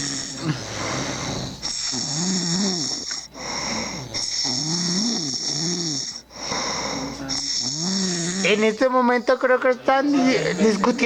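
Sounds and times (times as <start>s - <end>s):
men snoring: 0.0s - 8.7s, 10.2s - 11.0s.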